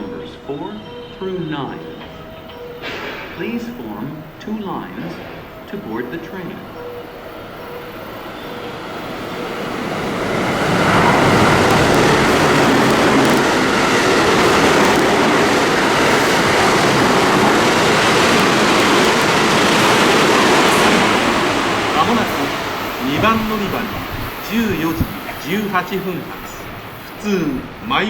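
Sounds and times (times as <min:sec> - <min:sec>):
train wheels on rails: 0:01.8 - 0:28.0.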